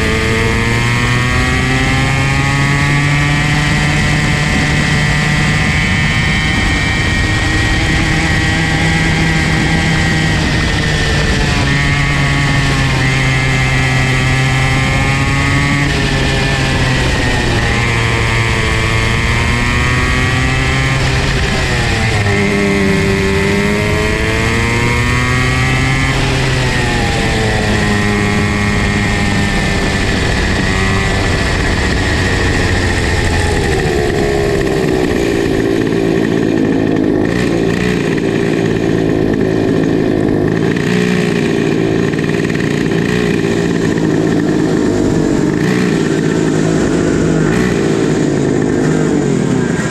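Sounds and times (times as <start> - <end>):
go-kart engines running: 0.0 - 49.9.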